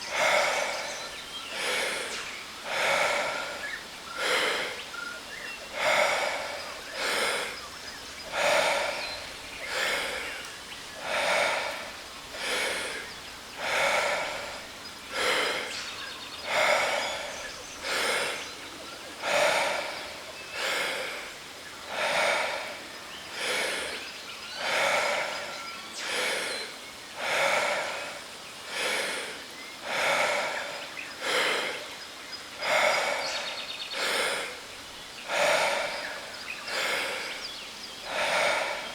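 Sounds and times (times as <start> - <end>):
person breathing deeply: 0.0 - 38.9.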